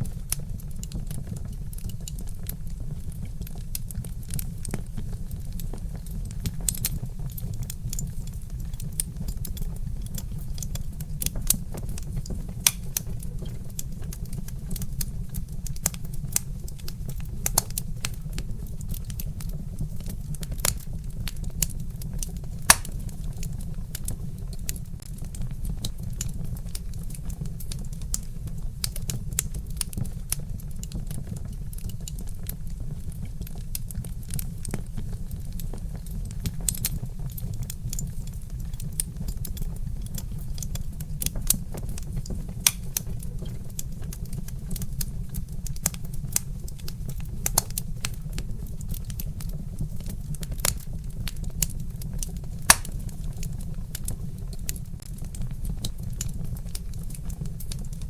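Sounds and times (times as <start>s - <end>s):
low rumble of fire: 0.0s - 58.0s
wood fire crackling: 0.0s - 58.0s.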